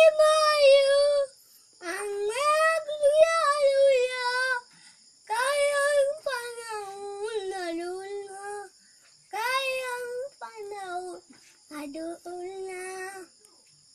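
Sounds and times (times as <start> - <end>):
boy singing a cappella: 0.0 - 8.7, 9.3 - 13.3.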